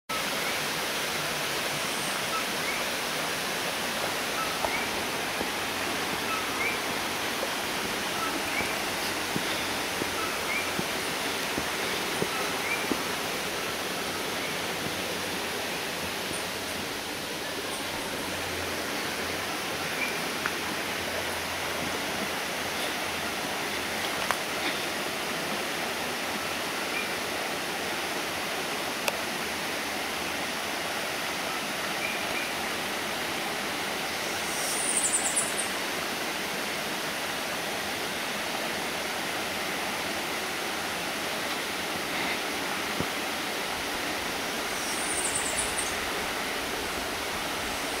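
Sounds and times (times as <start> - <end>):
stream water flowing: 0.1 - 48.0.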